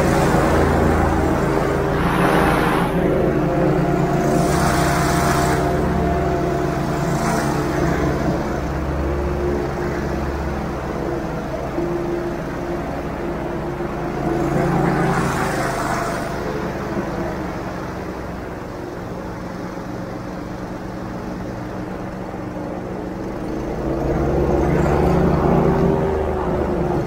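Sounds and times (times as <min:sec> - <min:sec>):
airboat engine and propeller revving: 0:00.0 - 0:27.0.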